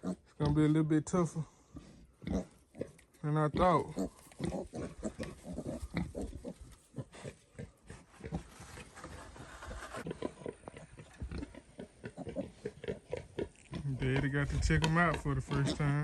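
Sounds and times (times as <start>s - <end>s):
pigs grunting: 0.0s - 0.8s, 1.6s - 16.0s.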